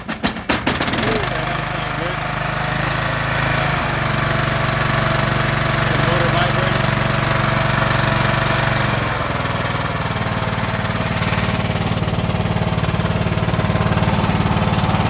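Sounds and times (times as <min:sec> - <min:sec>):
riding lawn mower engine running: 0:00.0 - 0:15.0.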